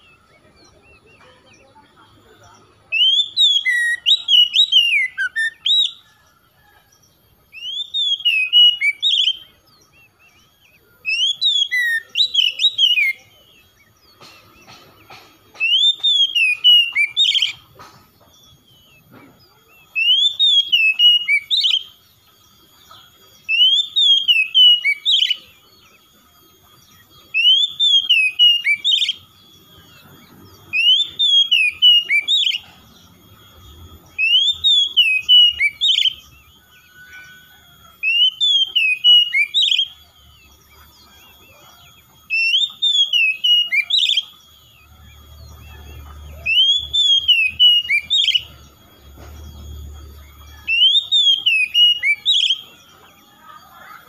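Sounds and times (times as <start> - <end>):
bird singing whistled phrases: 2.5 - 6.2, 7.5 - 17.7, 18.3 - 54.0.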